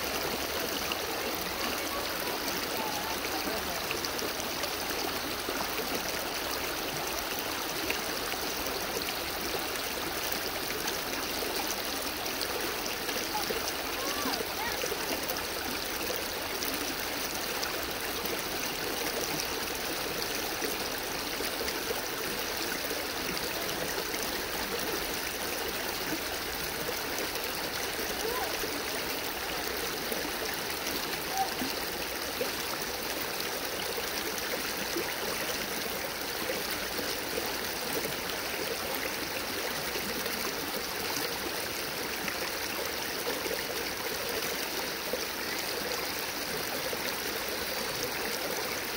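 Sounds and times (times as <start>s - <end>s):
stream flowing over stones: 0.0s - 48.9s.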